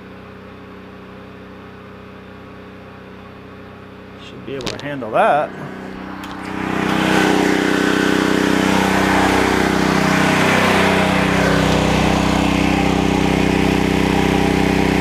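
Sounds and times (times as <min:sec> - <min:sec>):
generator running under load: 0:00.0 - 0:15.0.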